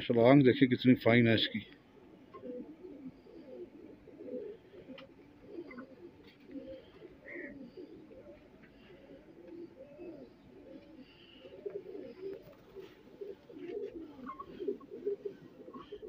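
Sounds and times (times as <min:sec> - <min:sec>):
pigeons cooing: 0:01.1 - 0:16.0.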